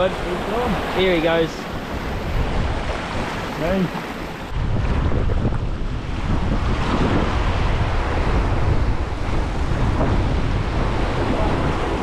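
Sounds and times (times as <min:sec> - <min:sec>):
surf over rocky shore: 0:00.0 - 0:12.0
wind buffeting microphone: 0:00.0 - 0:12.0.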